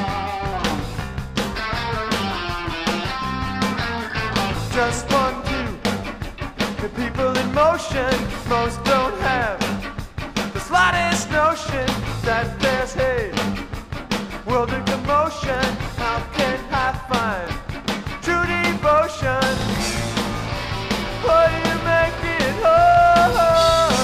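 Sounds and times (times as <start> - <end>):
bass: 0.0 - 24.0
indie rock band playing: 0.0 - 24.0
steady drumbeat: 0.0 - 24.0.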